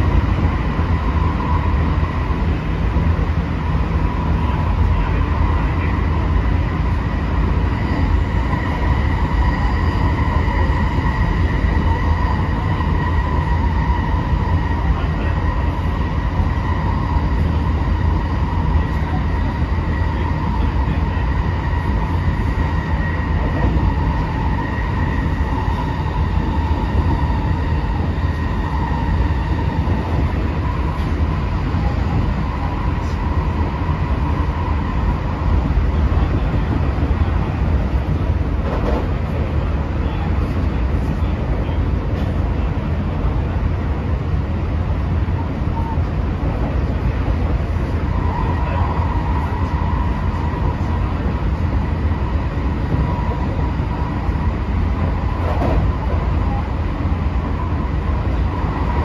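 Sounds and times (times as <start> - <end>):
train motor whine: 0.0 - 39.4, 45.2 - 59.0
wheels rumbling on rail: 0.0 - 59.0.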